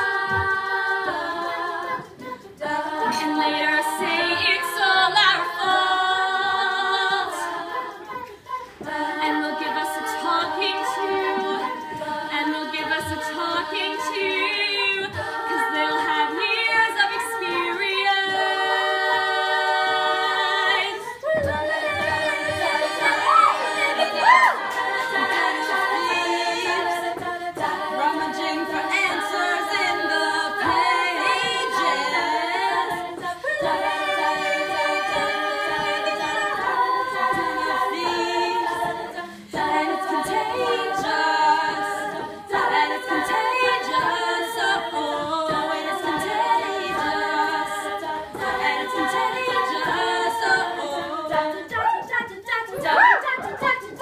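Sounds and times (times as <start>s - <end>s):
women singing a cappella harmony: 0.0s - 54.0s.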